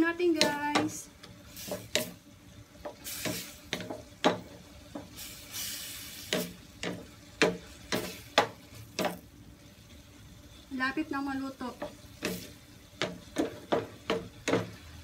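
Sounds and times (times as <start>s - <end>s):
vegetables sizzling: 0.0s - 15.0s
spatula scraping frying pan: 0.2s - 9.2s, 11.6s - 15.0s.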